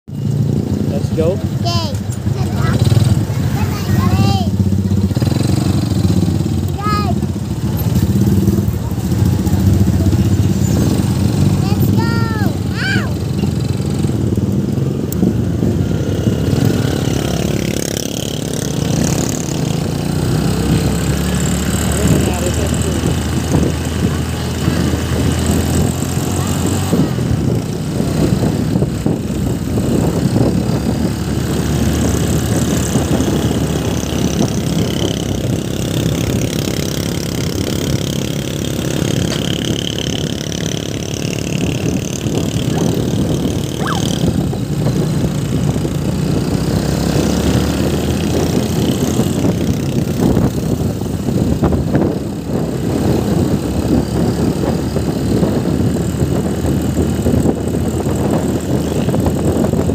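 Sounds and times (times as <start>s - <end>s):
motorcycle engine running: 0.1s - 59.9s
wind rushing on microphone: 0.2s - 59.9s.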